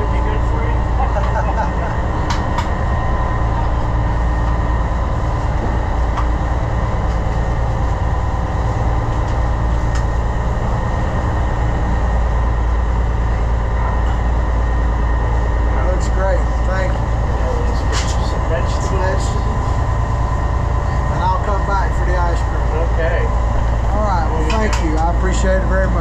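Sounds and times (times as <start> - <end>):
boat engine drone: 0.0 - 26.0.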